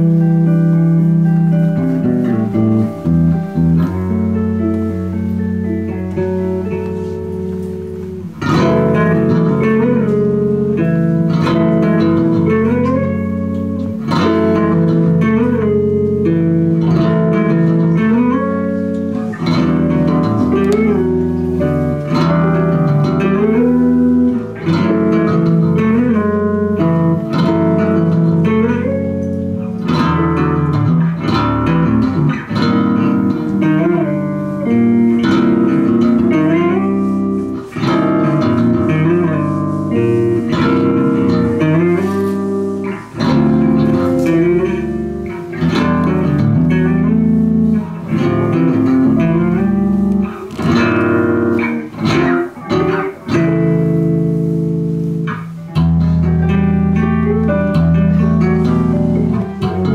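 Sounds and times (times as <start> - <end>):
electric guitars playing live: 0.0 - 59.9.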